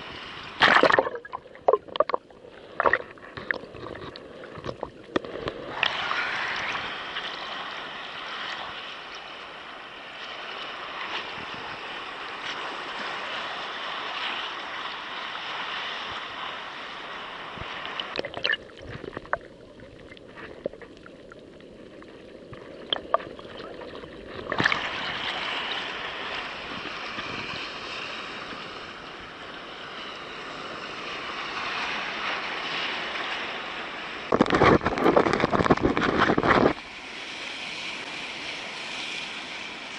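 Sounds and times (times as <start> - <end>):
waves sloshing around rocks: 0.0 - 39.9.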